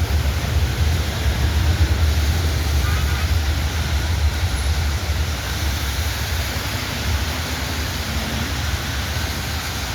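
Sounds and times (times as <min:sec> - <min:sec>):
light rail train rumbling past: 0:00.0 - 0:09.9.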